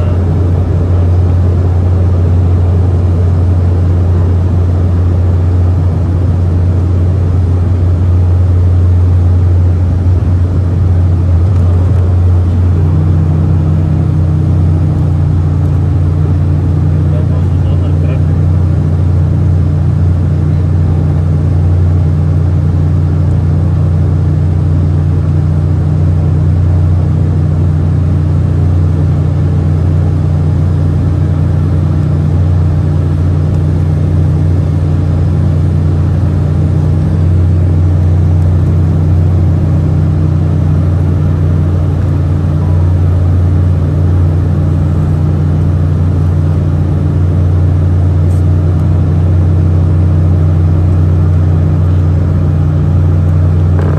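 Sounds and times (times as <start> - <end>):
jet engines loud low drone: 0.0 - 53.9.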